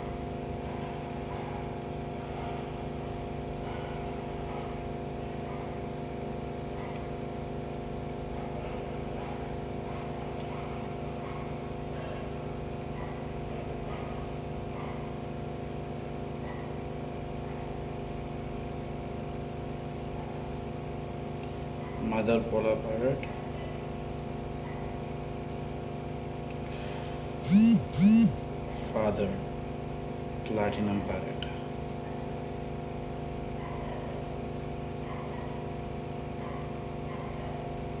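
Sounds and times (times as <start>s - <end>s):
aquarium pump humming: 0.0s - 22.6s, 26.6s - 36.2s.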